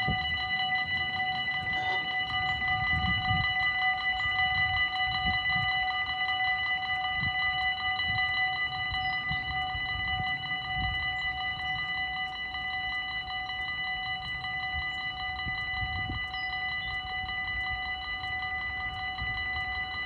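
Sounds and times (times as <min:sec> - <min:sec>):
level crossing bell ringing: 0:00.0 - 0:20.0.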